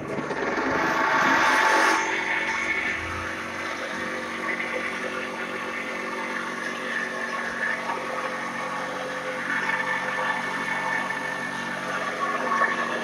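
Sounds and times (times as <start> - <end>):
corn sheller droning: 0.0 - 13.0.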